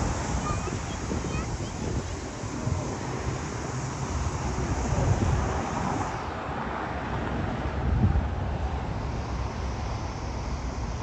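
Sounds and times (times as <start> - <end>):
distant jet aircraft rumble: 0.0 - 11.0
wind buffeting microphone: 0.0 - 11.0.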